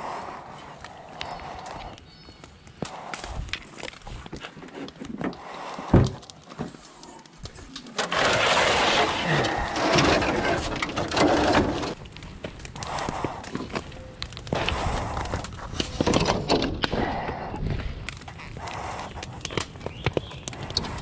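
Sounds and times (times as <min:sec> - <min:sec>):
firewood scraping and rustling: 0:00.0 - 0:21.0.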